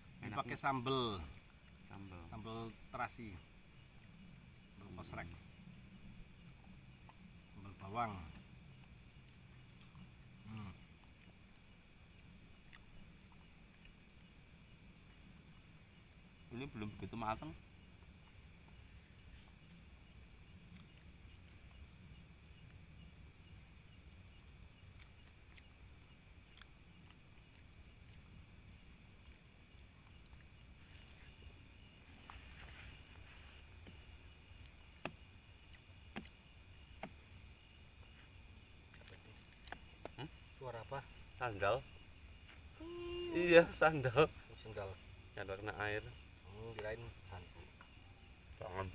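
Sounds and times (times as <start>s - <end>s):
night insects trilling: 0.0s - 48.9s.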